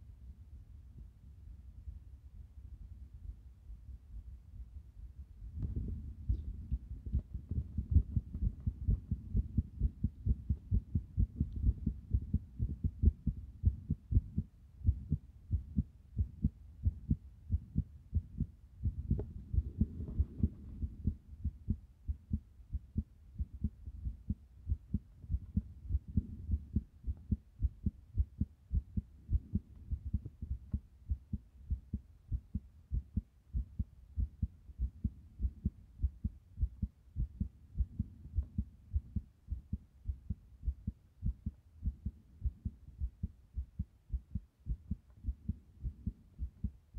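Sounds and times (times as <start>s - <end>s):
heartbeat thumps: 4.2s - 46.9s.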